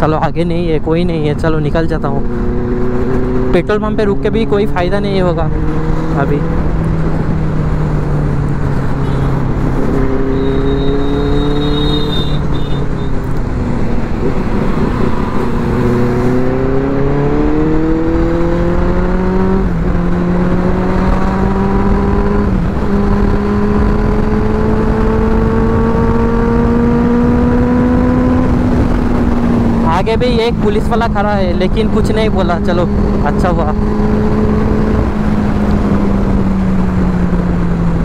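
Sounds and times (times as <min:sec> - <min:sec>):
wind rush over microphone: 0:00.8 - 0:10.2, 0:13.1 - 0:38.0
motorcycle engine accelerating: 0:01.2 - 0:38.0.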